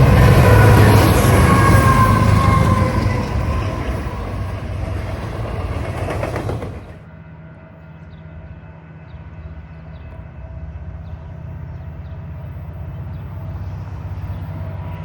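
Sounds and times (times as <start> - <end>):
train cars running over rails: 0.0 - 15.0.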